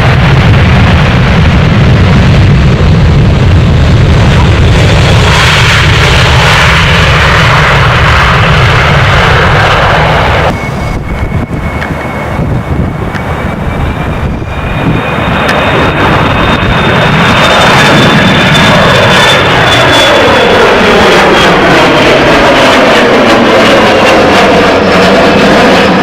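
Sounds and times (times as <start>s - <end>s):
high whine: 0.0s - 26.0s
jet engines roaring: 0.0s - 26.0s.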